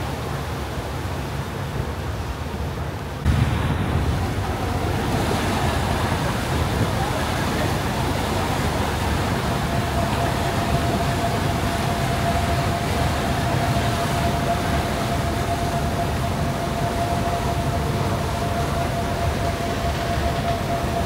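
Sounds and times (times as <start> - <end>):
constant high whine: 3.1 - 21.0
ferry diesel engines rumbling: 3.1 - 21.0.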